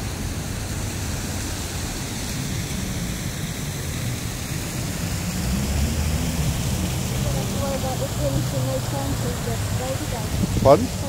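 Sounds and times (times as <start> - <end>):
street traffic roar: 0.0 - 11.0
vehicle engine low hum: 0.0 - 11.0.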